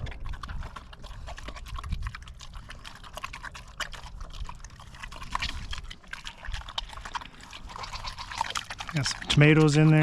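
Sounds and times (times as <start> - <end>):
pigs chomping and crunching: 0.0 - 10.0.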